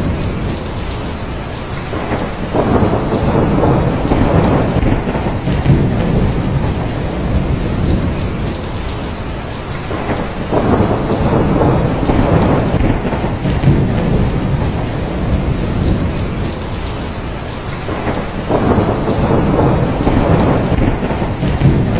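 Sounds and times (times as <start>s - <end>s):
heavy rain: 0.0s - 21.9s
rolling thunder: 0.0s - 21.9s.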